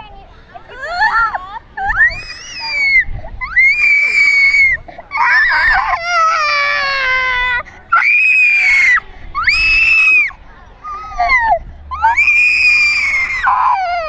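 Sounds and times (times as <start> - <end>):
young child screaming and crying: 1.8 - 14.0.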